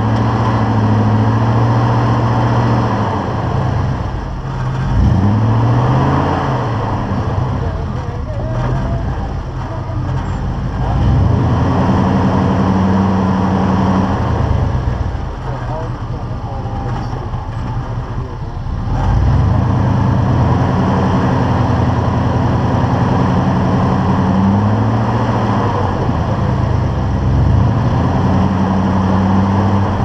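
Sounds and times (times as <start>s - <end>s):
off-road vehicle engine: 0.0s - 30.0s.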